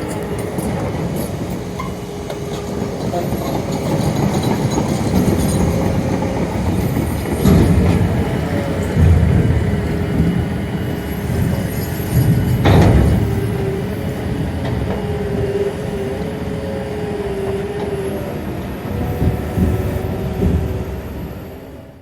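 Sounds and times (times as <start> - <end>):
diesel machinery rumbling: 0.0 - 22.0.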